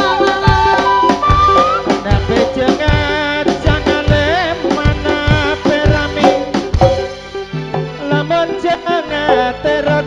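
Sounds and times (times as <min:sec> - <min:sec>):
drum strokes: 0:00.0 - 0:08.3
live band music: 0:00.0 - 0:10.0.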